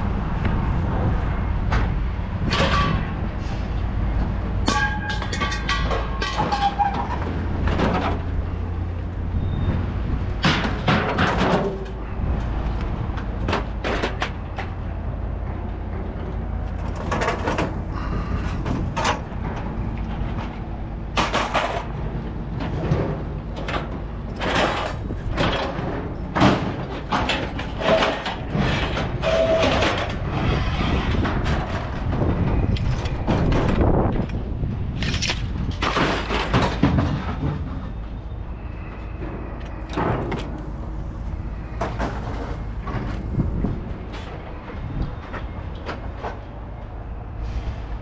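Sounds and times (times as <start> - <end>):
vehicle rumbling: 0.0 - 48.0
scrap metal clanking and rattling: 1.7 - 3.8, 4.6 - 8.9, 10.4 - 12.3, 13.2 - 14.8, 15.4 - 34.3, 35.0 - 38.3, 39.0 - 46.5.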